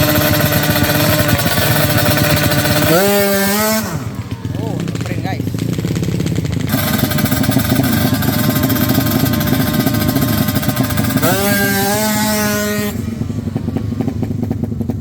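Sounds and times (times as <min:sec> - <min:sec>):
motorcycle engine running flat out: 0:00.0 - 0:15.0.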